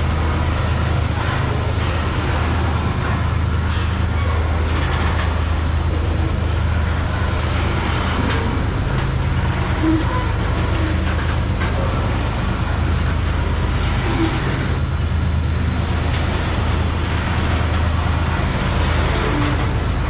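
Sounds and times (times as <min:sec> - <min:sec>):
steel wheels rumbling on rail: 0:00.0 - 0:20.0.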